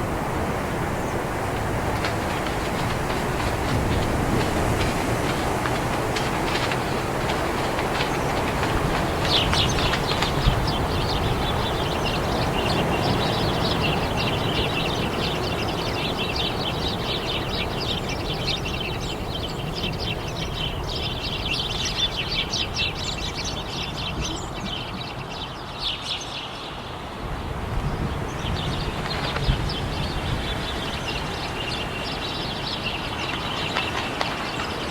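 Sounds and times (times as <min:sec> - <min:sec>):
flock of birds chirping: 0:00.0 - 0:34.9.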